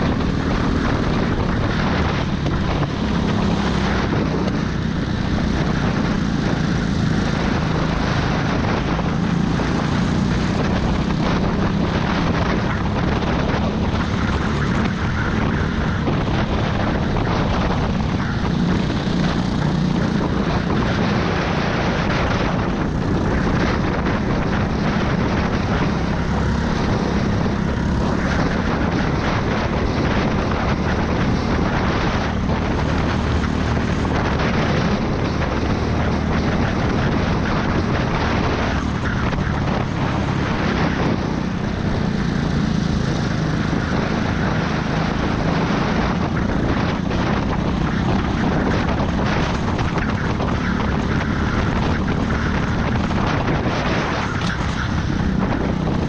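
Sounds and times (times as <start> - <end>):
go-kart engine running hard: 0.0 - 56.0
wind on microphone: 0.0 - 56.0.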